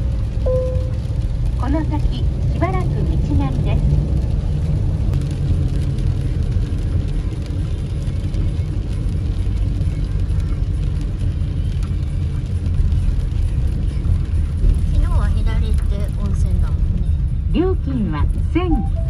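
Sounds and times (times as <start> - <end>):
tyre noise on wet road: 0.0 - 17.4
road and engine rumble: 0.0 - 19.0.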